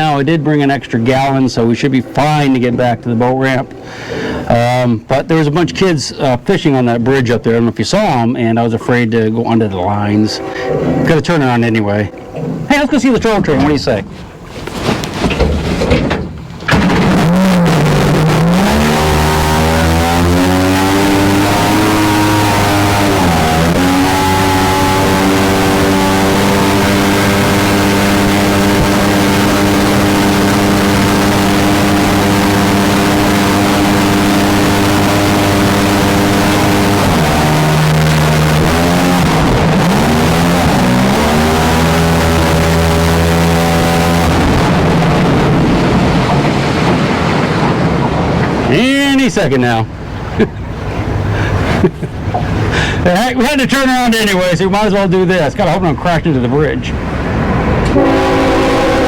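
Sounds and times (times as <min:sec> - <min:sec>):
jet boat engine revving: 0:00.0 - 0:07.3, 0:08.0 - 0:59.0.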